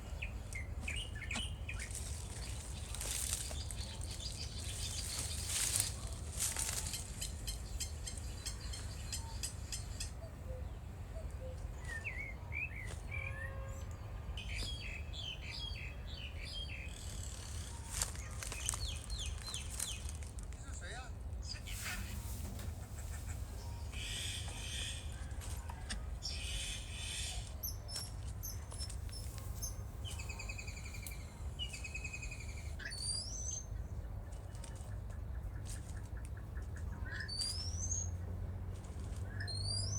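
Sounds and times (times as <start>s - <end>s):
small birds chirping: 0.0s - 38.3s, 39.0s - 39.9s.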